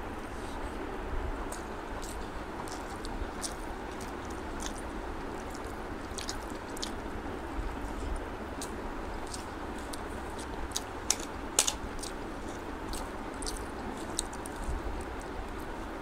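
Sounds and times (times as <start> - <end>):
chewing with wet mouth clicks: 1.5 - 7.1, 7.8 - 15.7.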